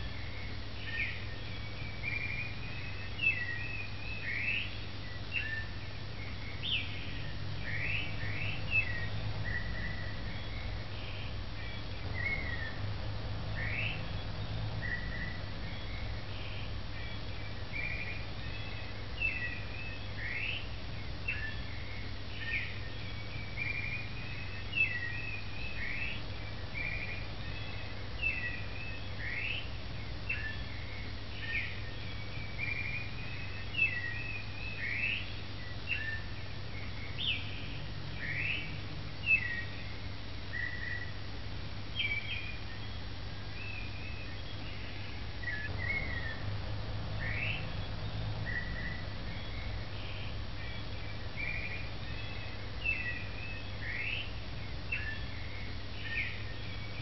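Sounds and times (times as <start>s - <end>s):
birds chirping: 0.0s - 57.0s
low steady hum: 0.0s - 57.0s.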